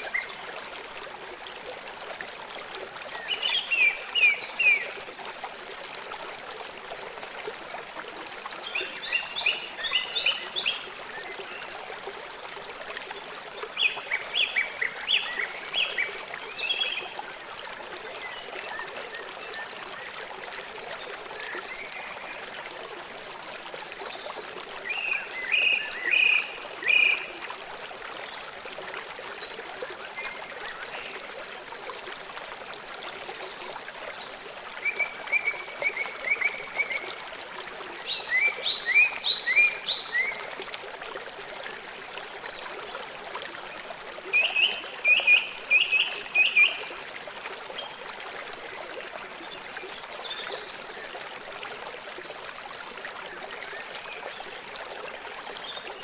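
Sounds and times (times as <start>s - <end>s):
stream of water running: 0.0s - 56.0s.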